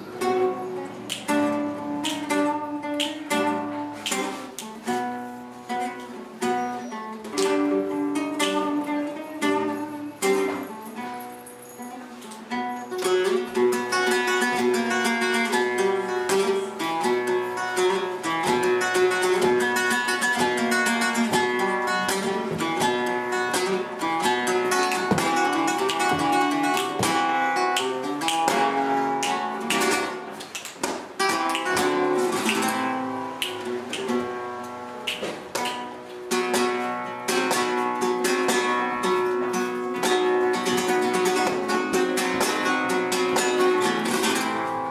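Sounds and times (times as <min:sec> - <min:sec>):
flamenco guitar playing: 0:00.0 - 0:44.9.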